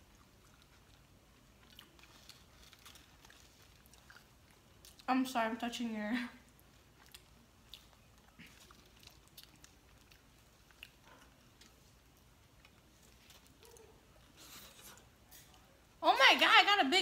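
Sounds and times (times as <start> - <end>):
faint chewing: 0.0 - 5.4, 6.2 - 15.8.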